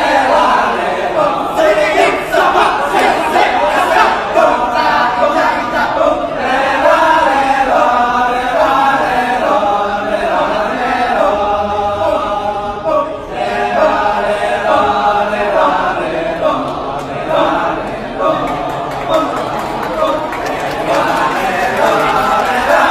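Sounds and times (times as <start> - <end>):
group of voices chanting: 0.0 - 22.9.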